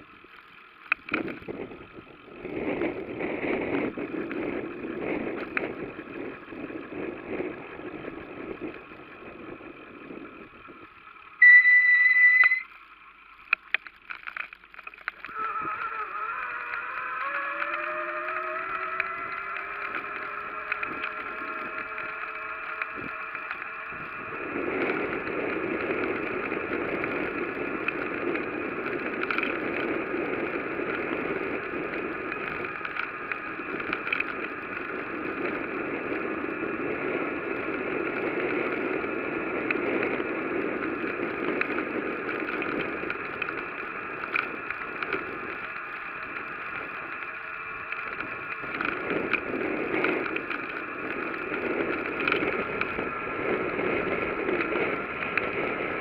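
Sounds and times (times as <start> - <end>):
bicycle tyre rolling on road: 0.0 - 56.0
steady high whine: 0.0 - 56.0.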